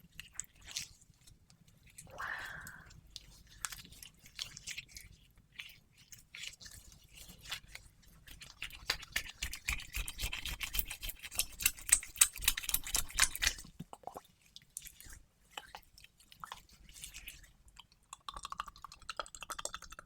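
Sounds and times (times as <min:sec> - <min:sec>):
wet sticky clicks and crackles: 0:02.8 - 0:20.0.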